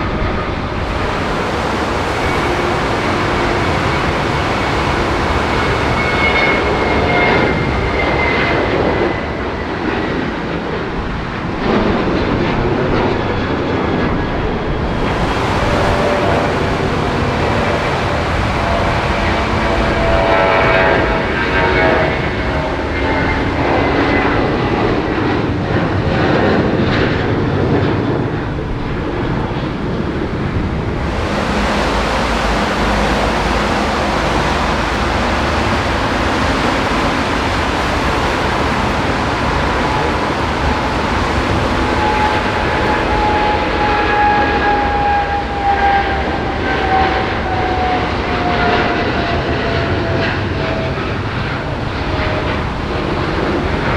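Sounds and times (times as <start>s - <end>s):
heavy rushing noise: 0.0s - 11.8s, 14.0s - 26.2s, 27.7s - 53.9s
jet engine whine: 0.0s - 53.9s.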